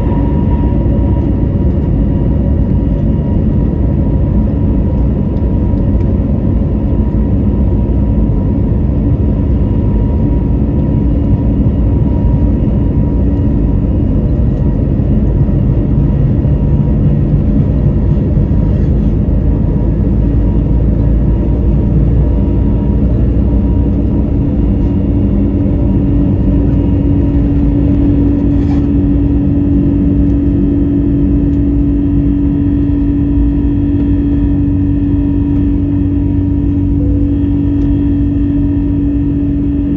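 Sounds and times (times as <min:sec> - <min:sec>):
jet engines rumbling in cabin: 0:00.0 - 0:39.9
low hum: 0:00.0 - 0:39.9.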